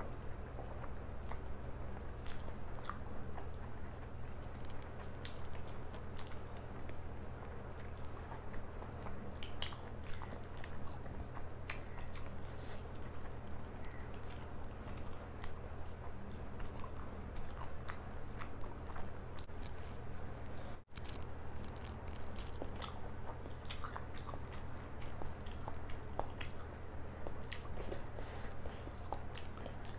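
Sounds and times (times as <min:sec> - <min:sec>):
steady low hum: 0:00.0 - 0:29.9
person chewing wet food: 0:00.1 - 0:20.0, 0:20.8 - 0:29.9.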